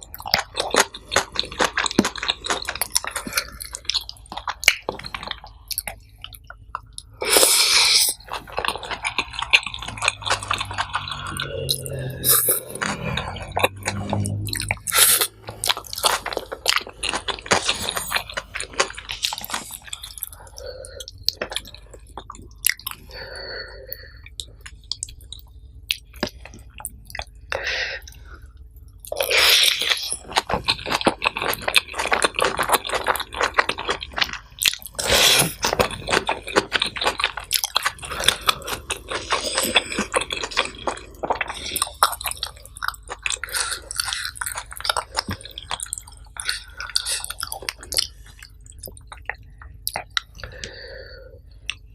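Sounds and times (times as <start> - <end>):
person chewing and crunching food: 0.0 - 51.9.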